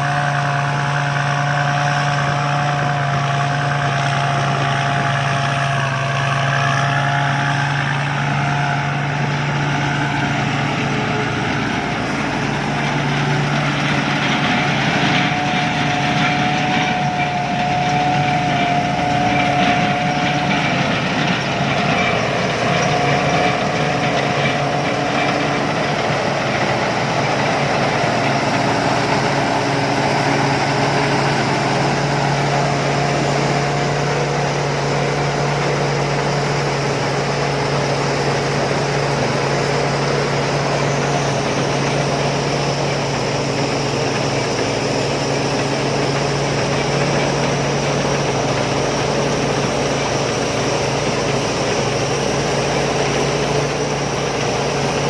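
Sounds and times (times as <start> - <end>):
combine harvester engine drone: 0.0 - 55.0
high mechanical whine: 0.0 - 55.0.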